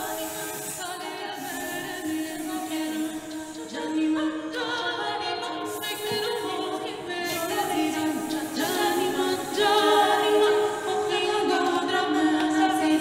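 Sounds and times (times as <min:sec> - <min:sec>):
choir singing a cappella: 0:00.0 - 0:13.0.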